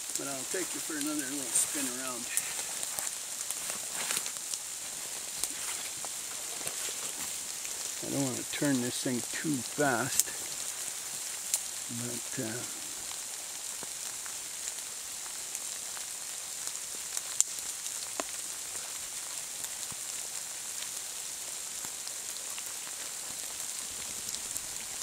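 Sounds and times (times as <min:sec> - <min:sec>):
light rain on foliage: 0:00.0 - 0:25.0.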